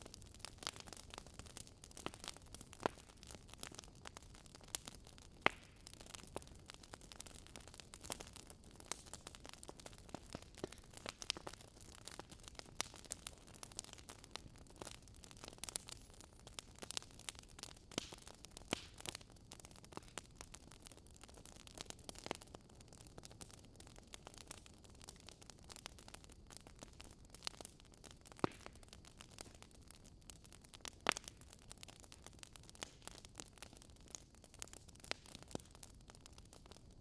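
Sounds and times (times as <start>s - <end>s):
faint crackles and ticks: 0.0s - 37.0s.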